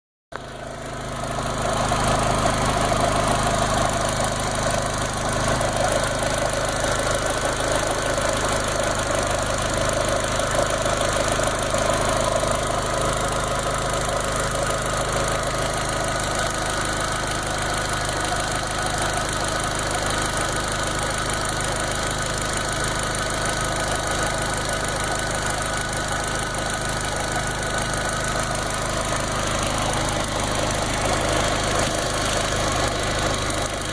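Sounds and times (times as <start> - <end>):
car engine idling: 0.4 - 33.9.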